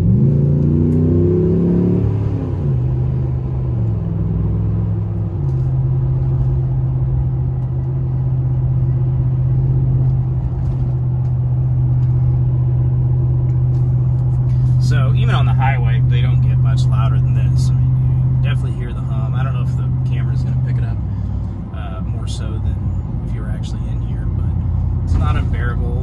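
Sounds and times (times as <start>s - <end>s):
pickup engine accelerating: 0.0s - 26.0s
tire hum on road: 0.0s - 26.0s.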